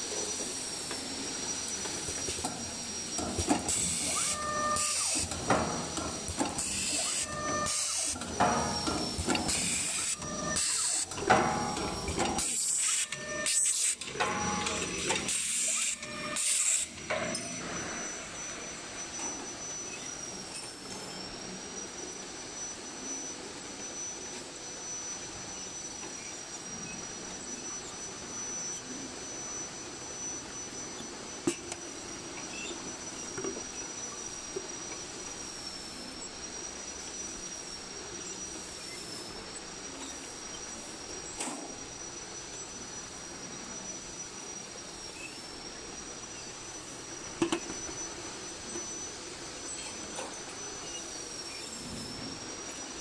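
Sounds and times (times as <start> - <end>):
machine high whine: 0.0 - 53.0.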